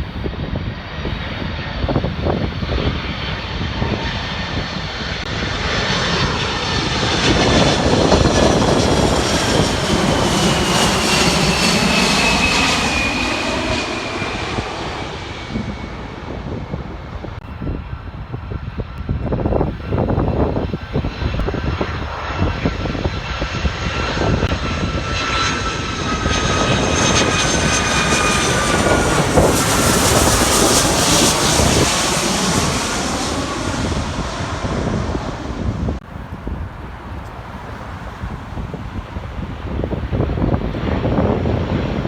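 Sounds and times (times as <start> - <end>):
airliner passing low overhead: 0.0 - 42.0.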